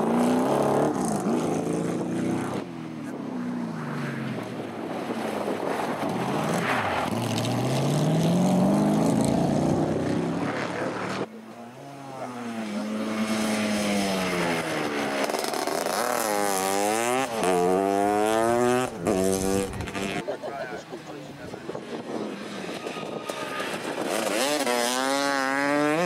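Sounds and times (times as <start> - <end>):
motorcycle revving through gears: 0.0 - 2.8, 6.2 - 20.3, 21.8 - 26.0.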